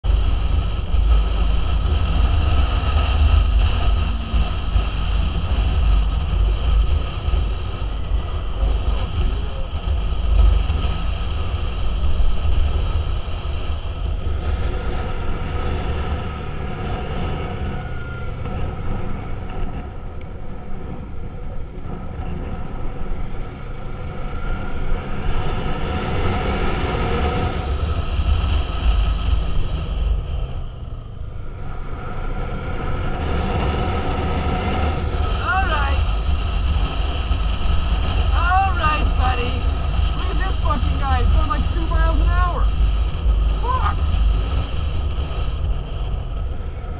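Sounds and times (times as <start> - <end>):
motorcycle engine cruising: 0.0 - 46.9
wind rumble on microphone: 0.0 - 46.9.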